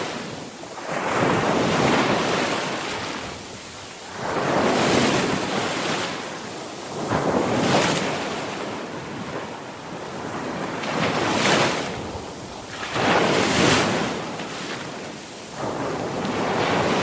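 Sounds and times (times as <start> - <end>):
sea waves crashing: 0.0 - 17.0.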